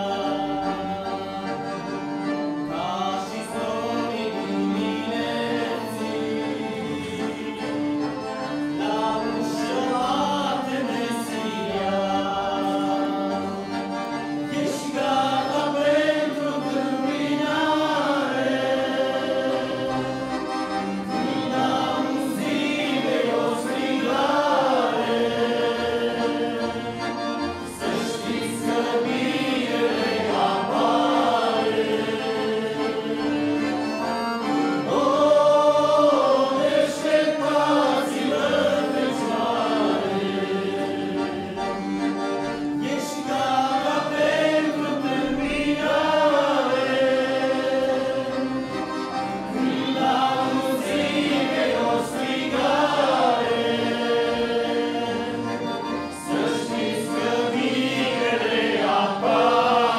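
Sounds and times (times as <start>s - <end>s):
accordions: 0.0s - 59.9s
men singing a hymn: 0.0s - 59.9s.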